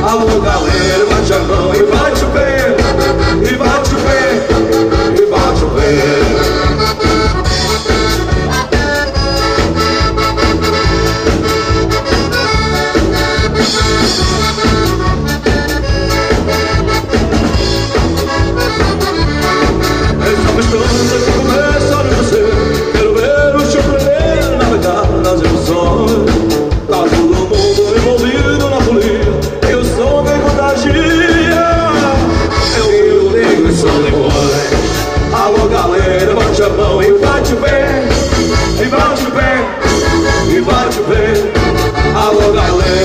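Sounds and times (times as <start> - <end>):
accordion melody: 0.0 - 43.0
drum kit beat: 0.0 - 43.0
electric bass: 0.0 - 43.0
guitar: 0.0 - 43.0.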